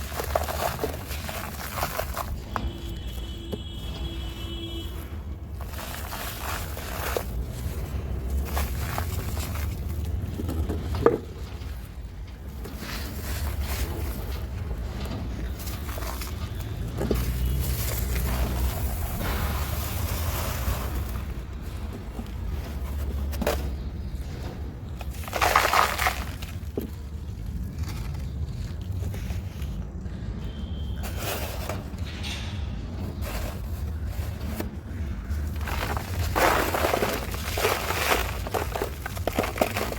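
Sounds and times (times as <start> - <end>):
crunching of crumbling floor: 0.0 - 39.9.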